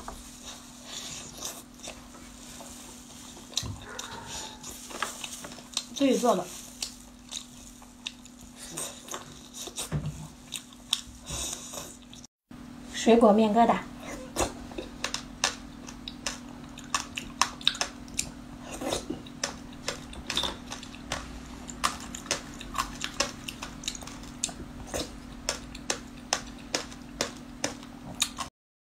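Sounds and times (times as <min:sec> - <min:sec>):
steady low hum: 0:00.0 - 0:28.5
chewing and slurping: 0:00.4 - 0:12.3, 0:14.3 - 0:28.5.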